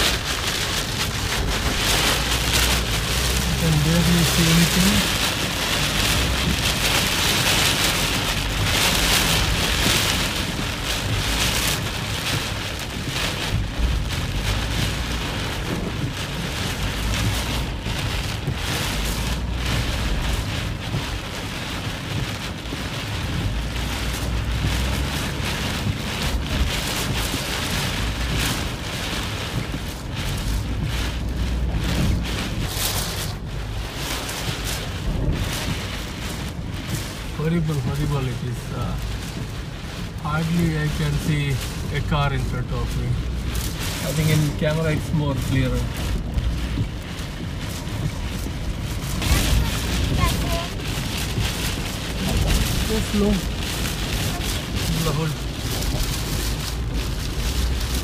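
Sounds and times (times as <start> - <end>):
heavy rain on car windshield: 0.0 - 58.0
low rumble: 0.0 - 58.0.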